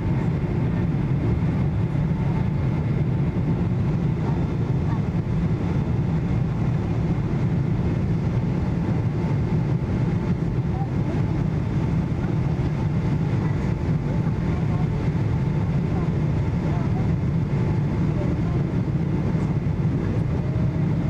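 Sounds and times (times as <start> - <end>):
aircraft cabin engine rumble: 0.0 - 21.0.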